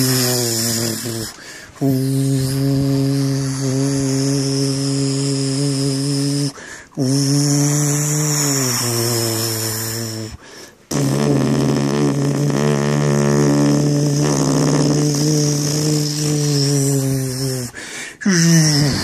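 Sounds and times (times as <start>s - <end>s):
fluttering lip buzz: 0.0s - 19.0s
person imitating airplane engine: 0.0s - 19.0s.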